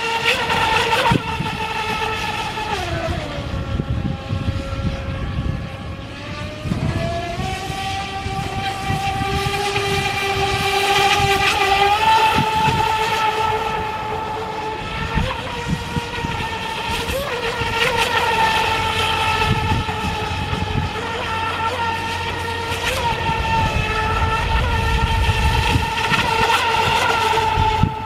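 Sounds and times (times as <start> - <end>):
electric boat motor whining: 0.0 - 28.0.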